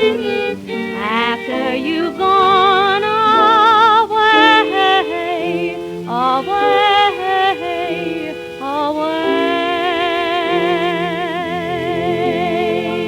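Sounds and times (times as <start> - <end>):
old record melody with vibrato: 0.0 - 13.0
sustained accompanying chords: 0.0 - 13.0.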